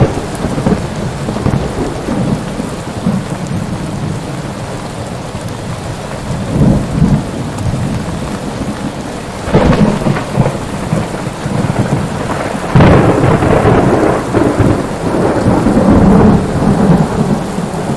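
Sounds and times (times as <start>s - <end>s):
rolling thunder: 0.0s - 4.2s, 6.4s - 17.9s
steady rain: 0.0s - 17.9s.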